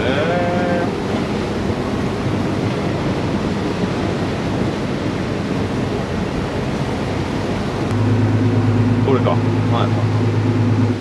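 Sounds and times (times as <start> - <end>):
motorboat low rumble: 0.0 - 11.0
water rushing: 0.0 - 11.0.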